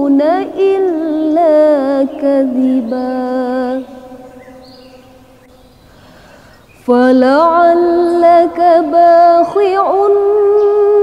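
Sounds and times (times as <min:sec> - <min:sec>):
woman reciting with echo: 0:00.0 - 0:11.0.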